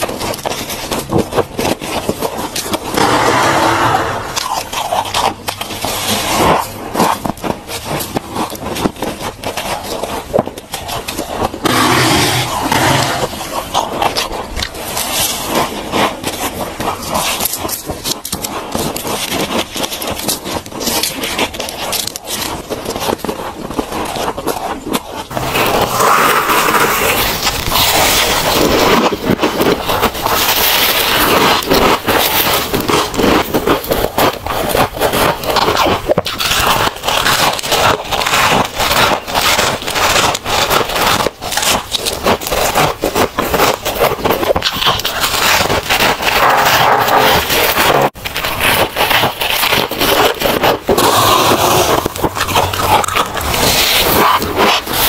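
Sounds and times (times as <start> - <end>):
ice being scraped: 0.0 - 55.0.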